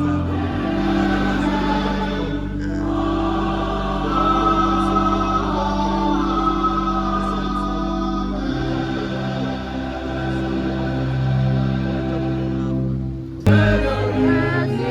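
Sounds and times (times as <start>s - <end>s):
choir-like singing: 0.0s - 14.9s.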